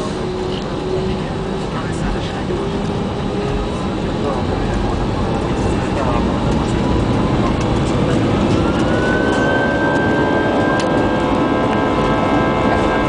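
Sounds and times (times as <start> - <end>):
jet engines spooling up: 0.0 - 13.0.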